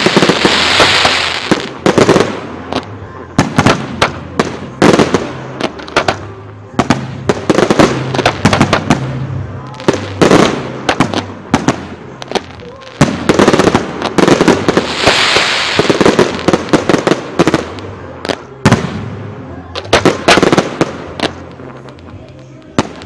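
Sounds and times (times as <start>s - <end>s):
fireworks bangs: 0.0s - 23.0s
fireworks crackling hiss: 0.0s - 23.0s.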